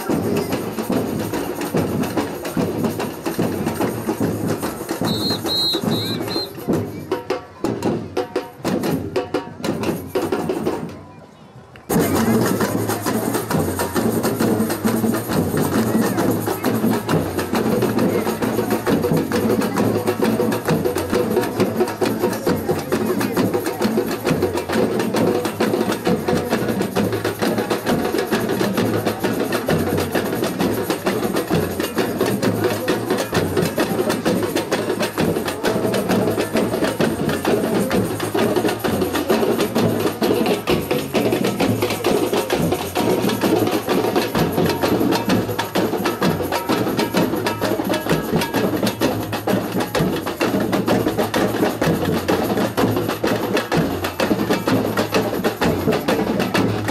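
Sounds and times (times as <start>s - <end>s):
samba percussion ensemble: 0.0s - 56.9s.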